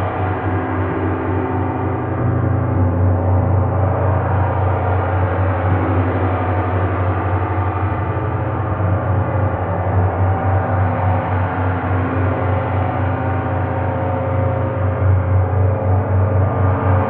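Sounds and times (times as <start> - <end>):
deep hum: 0.0 - 17.0.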